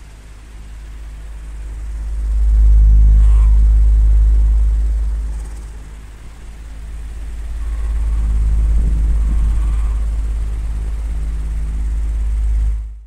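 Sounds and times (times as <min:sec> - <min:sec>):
electric fan motor hum: 0:00.0 - 0:13.0.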